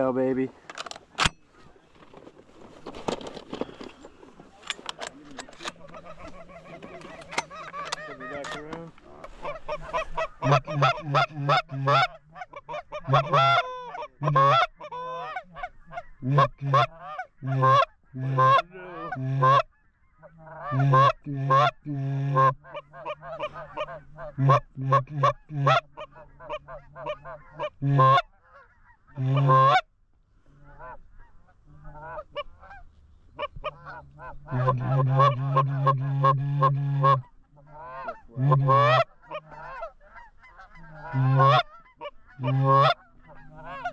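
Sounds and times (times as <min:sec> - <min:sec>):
goose honks and clucks: 0:03.0 - 0:43.9.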